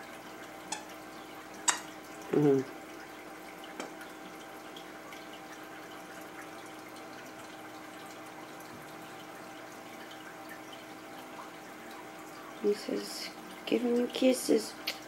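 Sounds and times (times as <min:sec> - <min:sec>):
fish tank water bubbling: 0:00.0 - 0:13.7
faint steady hum: 0:00.0 - 0:15.0.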